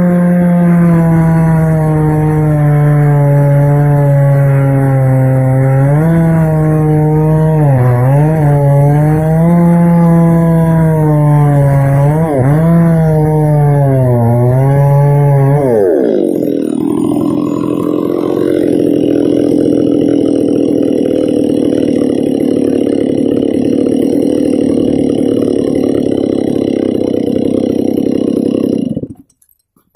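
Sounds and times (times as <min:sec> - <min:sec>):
chainsaw revving down and idling: 0:00.0 - 0:29.5.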